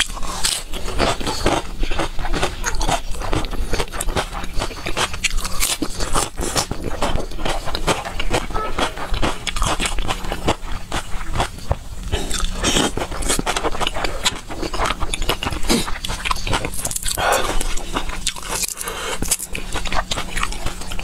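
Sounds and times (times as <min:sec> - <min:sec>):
close chewing with wet smacking: 0:00.0 - 0:21.0.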